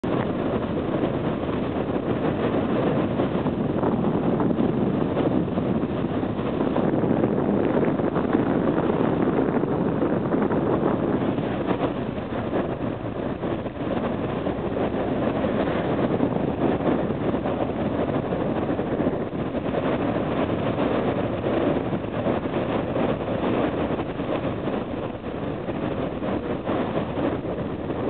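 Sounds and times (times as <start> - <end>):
ship engine rumble: 0.0 - 28.0
wind on microphone: 0.0 - 28.0.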